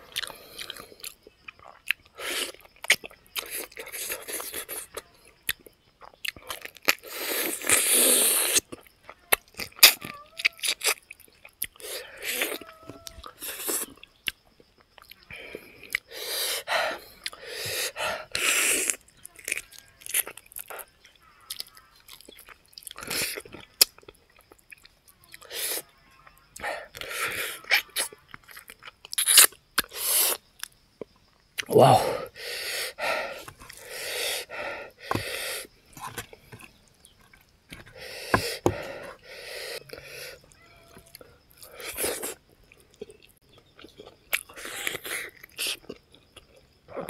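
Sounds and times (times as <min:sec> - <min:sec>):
person chewing and crunching: 0:00.0 - 0:25.8, 0:26.5 - 0:30.8, 0:33.1 - 0:47.0.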